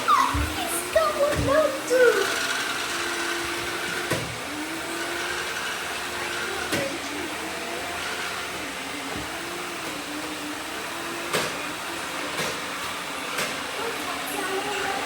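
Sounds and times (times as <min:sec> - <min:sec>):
robot vacuums humming: 0:00.0 - 0:15.0.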